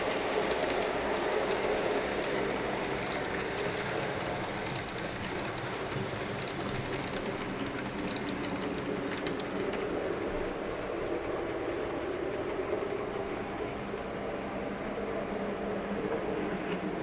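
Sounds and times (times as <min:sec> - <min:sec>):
model train rolling rumble: 0:00.0 - 0:17.0
wheels clicking over rails: 0:00.0 - 0:17.0.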